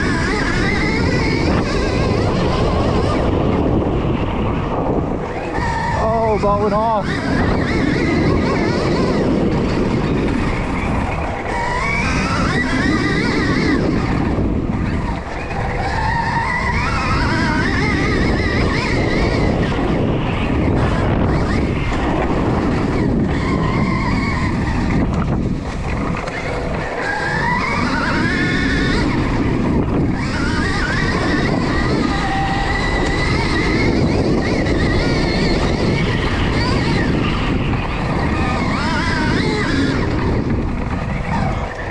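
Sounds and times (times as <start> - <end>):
electric motor whining: 0.0 - 41.9
tyres on dirt: 0.0 - 41.9
wind rushing: 0.0 - 41.9.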